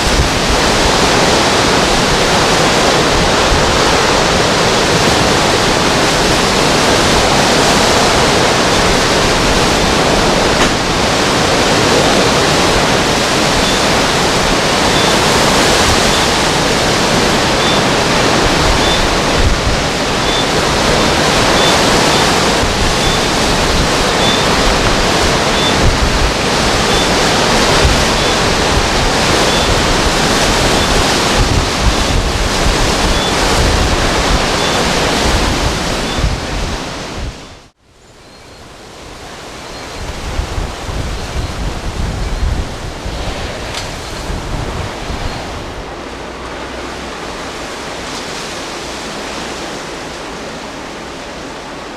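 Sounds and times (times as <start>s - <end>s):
strong wind on microphone: 0.0s - 51.9s.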